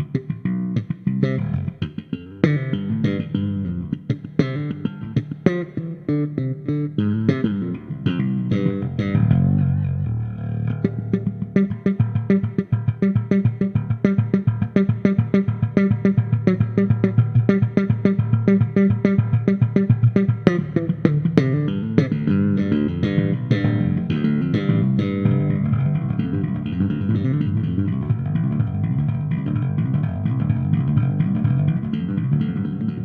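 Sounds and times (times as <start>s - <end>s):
plucked bass guitar: 0.0s - 33.0s.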